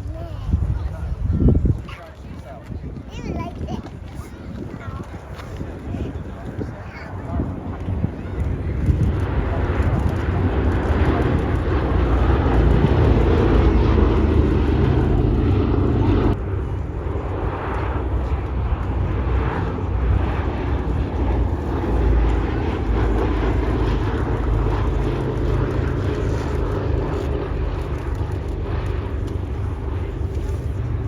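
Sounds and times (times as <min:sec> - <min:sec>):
propeller planes droning past: 0:00.0 - 0:31.0.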